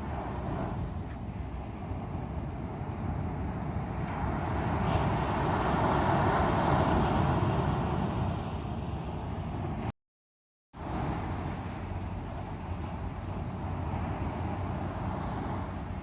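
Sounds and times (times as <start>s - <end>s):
sea waves breaking: 0.0s - 9.9s, 10.8s - 16.0s.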